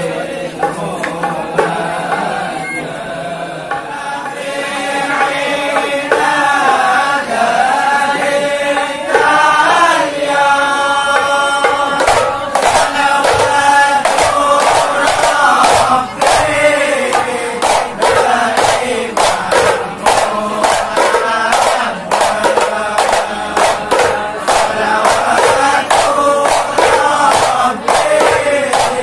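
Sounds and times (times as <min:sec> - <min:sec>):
frame drums beating: 0:00.0 - 0:02.8, 0:03.6 - 0:29.0
lead voice singing: 0:00.0 - 0:29.0
men chanting devotional song: 0:00.0 - 0:29.0.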